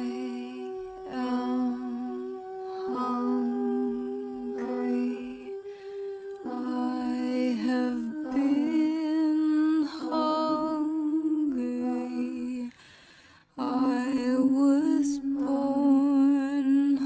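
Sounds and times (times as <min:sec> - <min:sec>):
person humming a slow tune: 0:00.0 - 0:12.8, 0:13.6 - 0:17.0.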